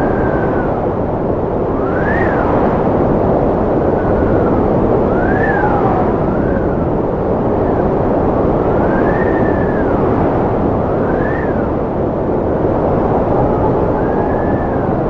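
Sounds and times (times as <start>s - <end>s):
strong wind whistling: 0.0s - 15.0s.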